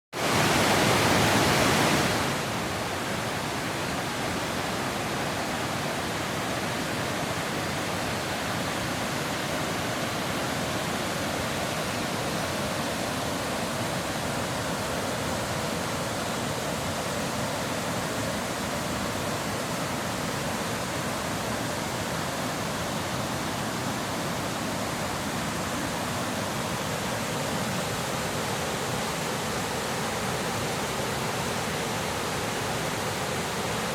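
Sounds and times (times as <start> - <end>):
small waterfall rushing and splashing: 0.1 - 33.9.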